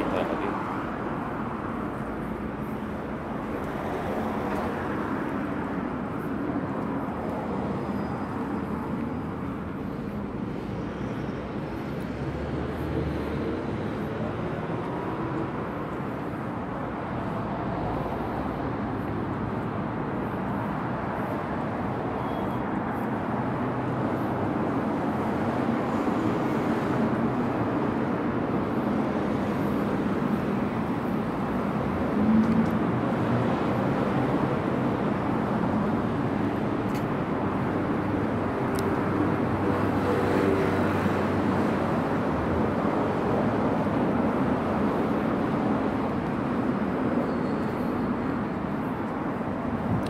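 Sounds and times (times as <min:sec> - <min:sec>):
road traffic: 0:00.0 - 0:50.0.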